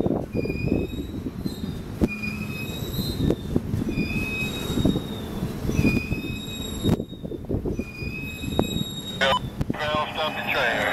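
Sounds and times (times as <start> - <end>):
short high wheel squeals: 0.3 - 9.5.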